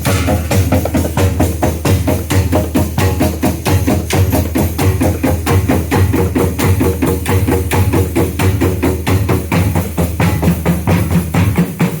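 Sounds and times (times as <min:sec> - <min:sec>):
held pitched instrument notes: 0:00.0 - 0:11.9
deep drum tone: 0:00.0 - 0:12.0
struck drum strokes: 0:00.0 - 0:12.0.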